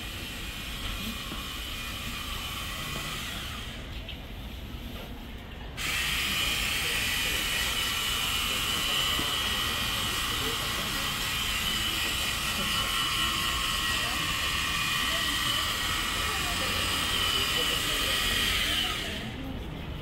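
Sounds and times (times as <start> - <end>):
street ambience with hiss: 0.0 - 20.0.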